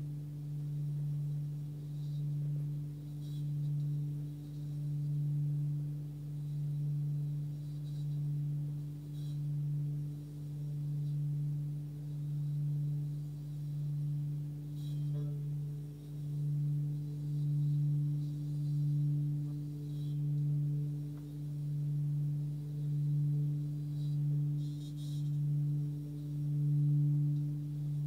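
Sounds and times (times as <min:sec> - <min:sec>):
singing bowl low tone: 0:00.0 - 0:28.0.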